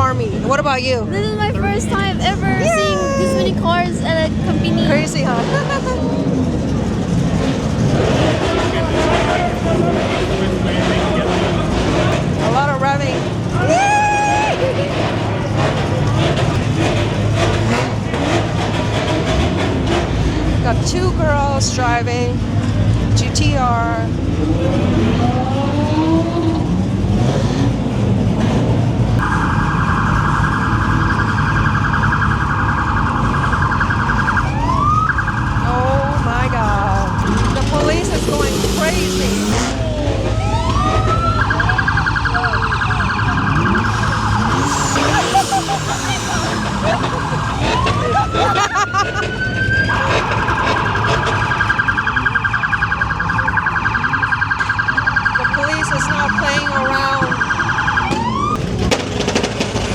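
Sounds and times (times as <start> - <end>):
car engines rumbling: 0.0 - 59.9
police siren: 1.4 - 16.7, 24.1 - 27.4, 29.2 - 58.8.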